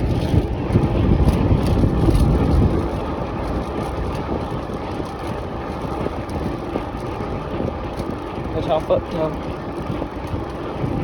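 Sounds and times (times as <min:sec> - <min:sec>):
bicycle tyre rumble: 0:00.0 - 0:11.0
wind on microphone: 0:00.0 - 0:11.0.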